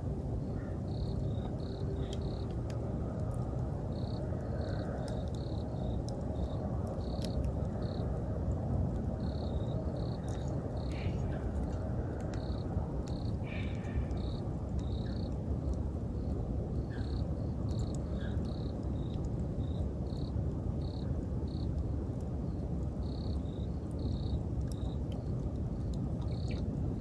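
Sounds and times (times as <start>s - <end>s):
insects chirping: 0.0s - 21.8s, 22.5s - 27.0s
campfire burning and crackling: 0.0s - 27.0s.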